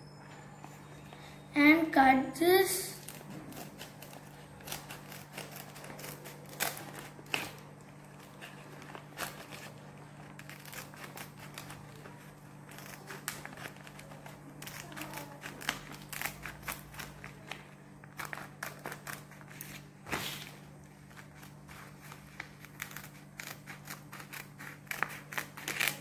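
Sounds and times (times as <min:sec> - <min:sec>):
steady low hum: 0:00.0 - 0:26.0
scissors snipping plastic: 0:03.0 - 0:19.4, 0:21.4 - 0:26.0.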